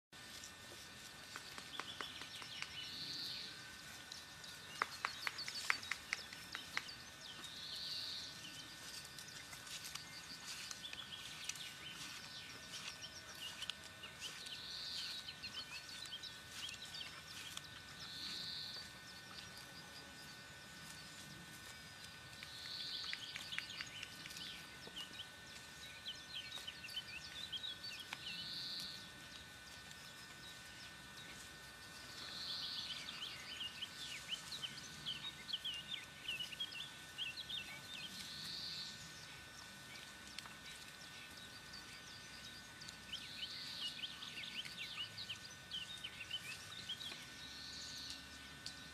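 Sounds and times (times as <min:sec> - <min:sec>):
faint high hum: 0:00.2 - 0:48.9
birds singing: 0:00.5 - 0:48.9.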